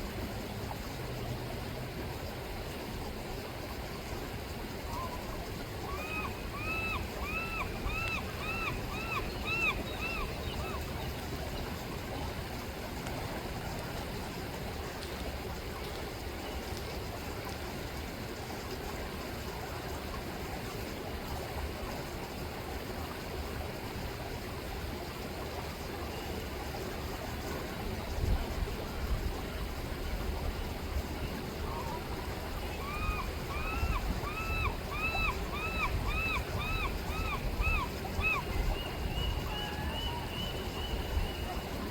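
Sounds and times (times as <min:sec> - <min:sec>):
river water rushing: 0:00.0 - 0:16.4, 0:19.4 - 0:41.9.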